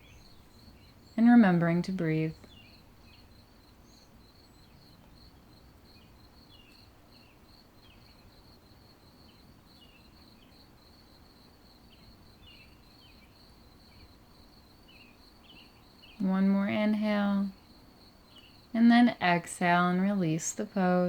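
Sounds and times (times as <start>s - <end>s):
insect chirping: 0.0s - 16.8s, 17.4s - 21.0s
low background hiss: 0.0s - 21.0s.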